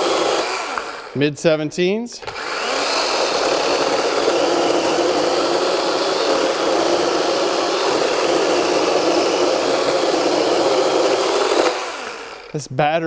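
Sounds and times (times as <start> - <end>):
chainsaw cutting wood: 0.0 - 1.2, 2.2 - 12.6.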